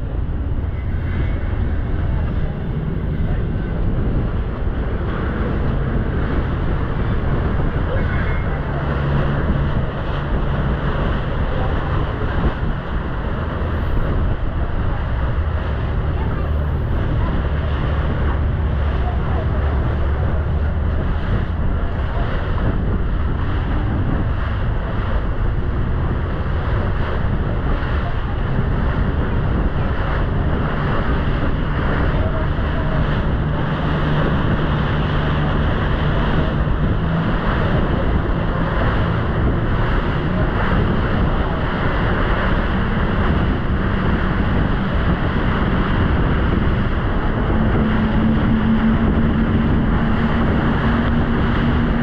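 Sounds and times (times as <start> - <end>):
motorboat engine running: 0.0 - 52.0
water rushing past hull: 0.0 - 52.0
wind buffeting microphone: 0.0 - 52.0.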